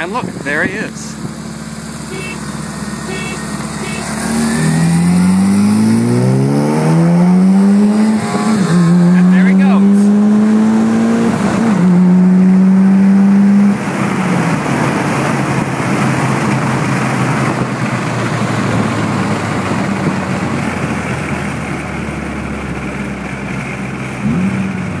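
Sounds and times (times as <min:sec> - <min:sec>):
road and wind noise: 0:00.0 - 0:25.0
vehicle engine revving high: 0:00.0 - 0:25.0.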